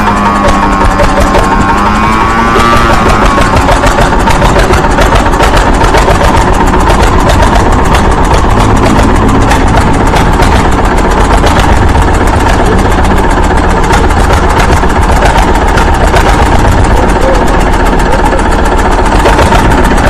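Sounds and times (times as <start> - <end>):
miniature diesel engine running: 0.0 - 20.0.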